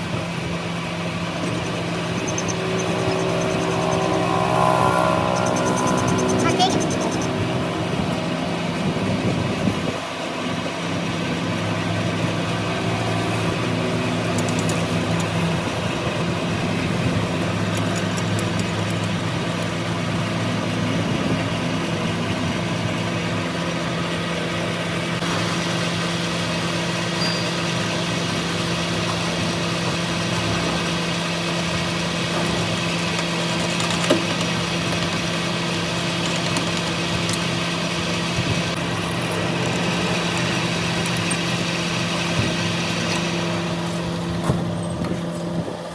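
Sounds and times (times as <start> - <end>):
diesel engine idling: 0.0 - 33.8, 34.5 - 45.9.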